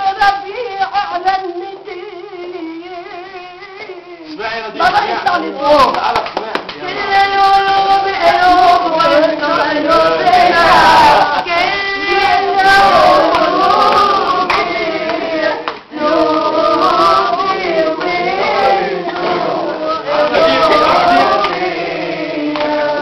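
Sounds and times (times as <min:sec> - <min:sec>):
men and women singing folk song: 0:00.0 - 0:23.0.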